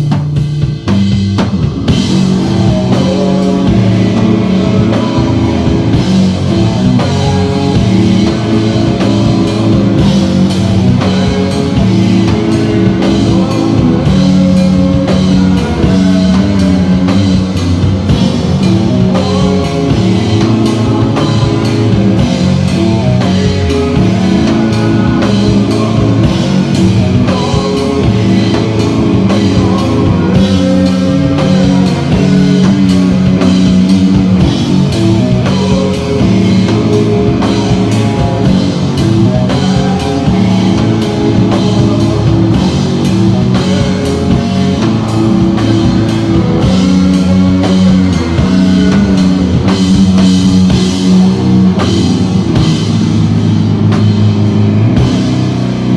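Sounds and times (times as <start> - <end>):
drum kit beat: 0.0 - 55.9
rock band playing live: 0.0 - 55.9
guitars sustained low notes: 1.5 - 55.9.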